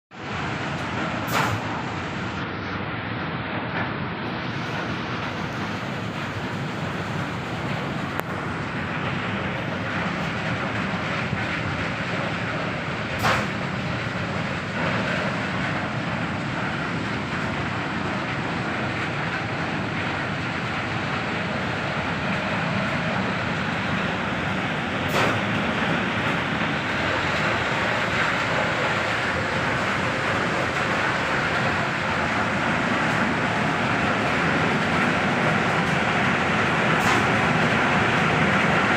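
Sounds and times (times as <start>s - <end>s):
industrial machinery rumble: 0.1s - 38.9s.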